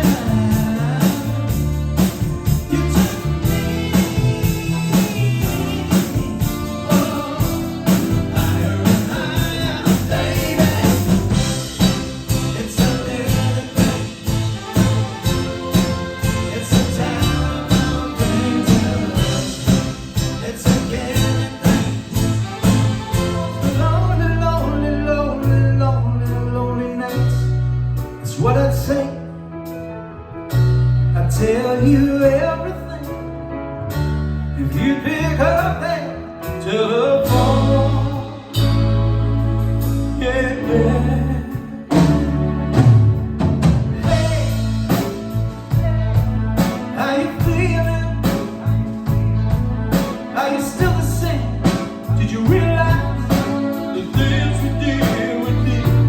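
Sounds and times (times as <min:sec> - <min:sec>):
man singing: 0:00.0 - 0:27.6, 0:28.2 - 0:29.3, 0:31.2 - 0:33.4, 0:34.6 - 0:39.2, 0:39.9 - 0:42.5, 0:44.0 - 0:56.0
rock band playing: 0:00.0 - 0:56.0
steady bass line: 0:00.0 - 0:56.0.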